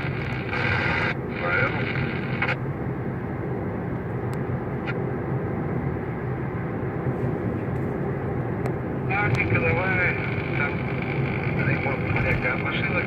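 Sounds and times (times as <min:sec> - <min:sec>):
vehicle engine and road drone: 0:00.0 - 0:13.0.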